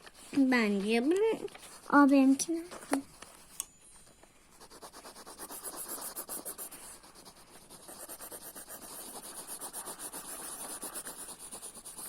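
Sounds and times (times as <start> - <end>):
pencil scribbling on paper: 0.0 - 2.2, 4.6 - 12.0.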